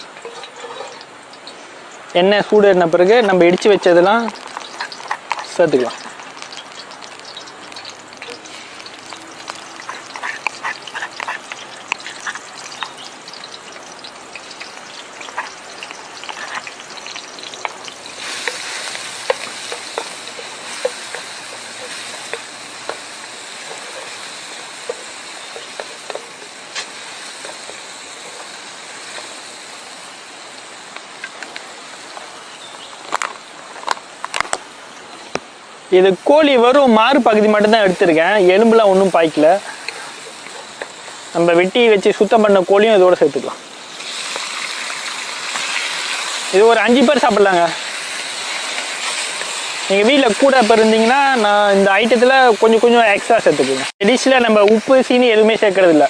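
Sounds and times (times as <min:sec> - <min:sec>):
oil sizzling and crackling in a pan: 0:00.0 - 0:56.0
paste frying in hot oil: 0:00.0 - 0:56.0.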